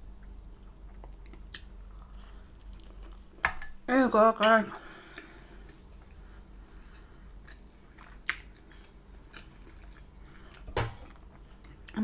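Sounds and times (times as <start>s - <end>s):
chewing food: 0.2s - 3.4s, 5.2s - 12.0s.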